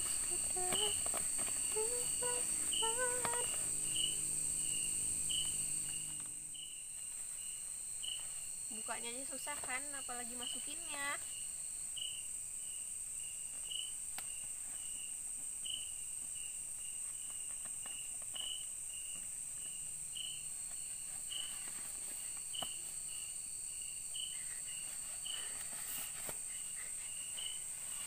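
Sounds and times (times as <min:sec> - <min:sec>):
insect chirping: 0:00.0 - 0:28.0
insects droning: 0:00.0 - 0:28.0.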